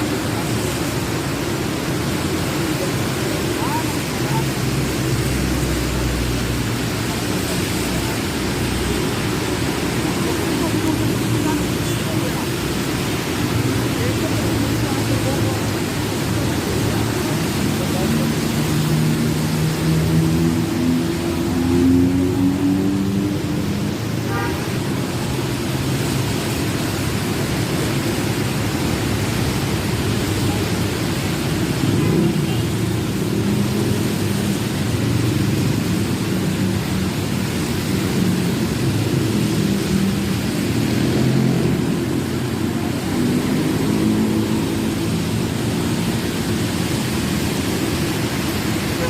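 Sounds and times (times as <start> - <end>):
heavy rain falling: 0.0 - 49.0
road traffic engines droning: 0.0 - 49.0.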